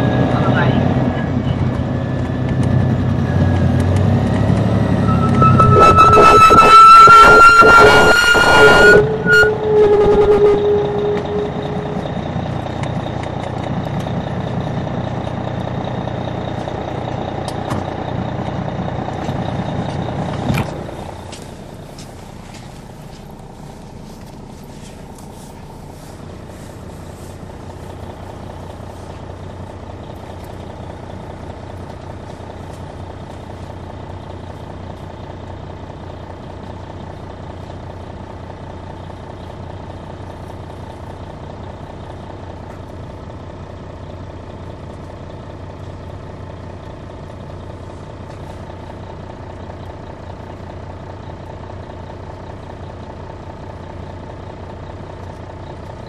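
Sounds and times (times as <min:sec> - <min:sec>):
coach diesel engine running: 0:00.0 - 0:56.0.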